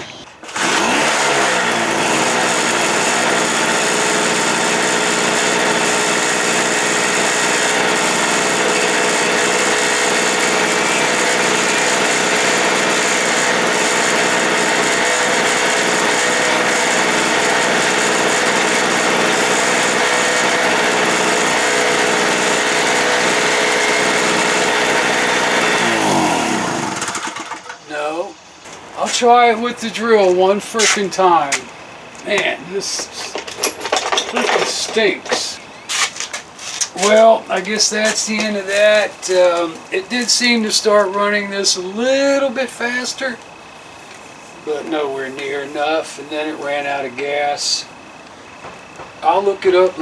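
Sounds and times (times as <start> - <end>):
portable generator engine running: 0.0 - 50.0.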